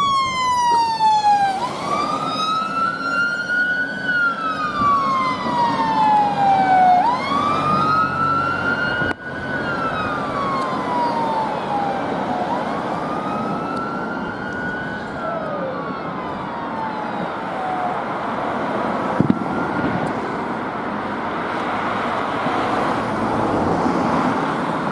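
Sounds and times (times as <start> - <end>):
fire engine wail siren: 0.0 - 24.9
road traffic noise: 0.0 - 24.9.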